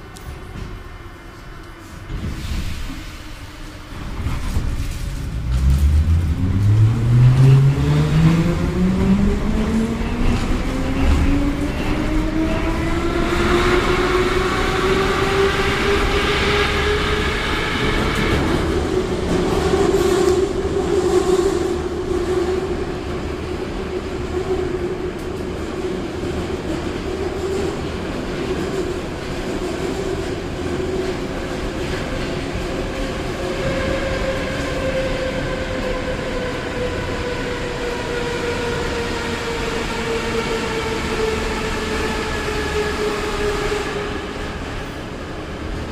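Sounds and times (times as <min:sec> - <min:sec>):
wheels rumbling on rail: 0:00.0 - 0:45.9.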